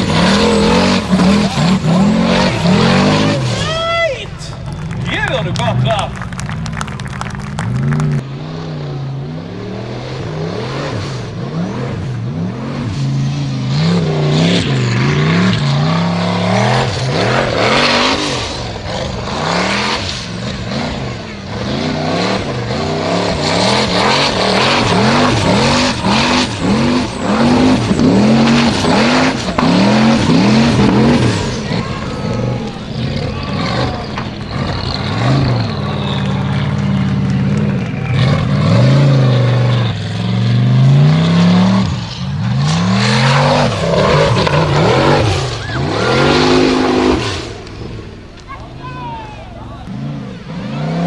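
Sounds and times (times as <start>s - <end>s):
buggy engine revving hard: 0.0s - 51.0s.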